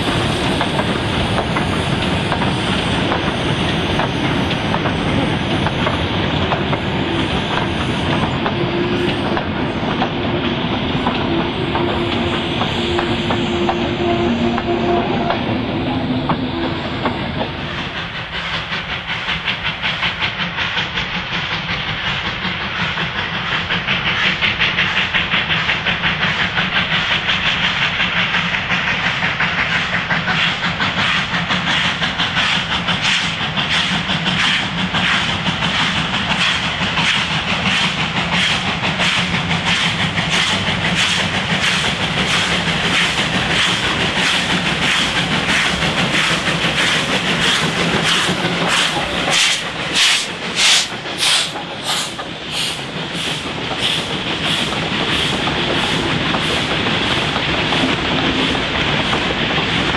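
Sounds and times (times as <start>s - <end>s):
steam hissing: 0.0s - 59.9s
steam locomotive chuffing: 0.0s - 59.9s.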